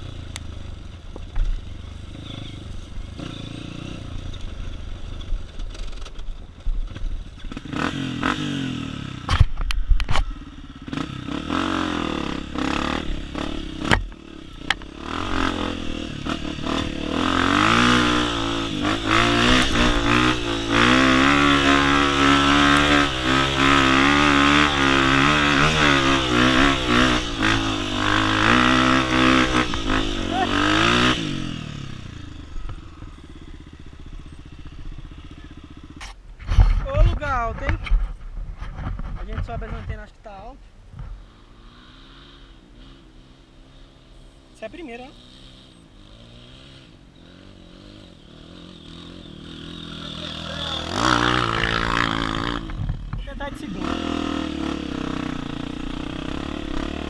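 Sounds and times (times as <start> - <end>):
dirt bike engine revving: 1.4 - 36.1, 41.2 - 57.0.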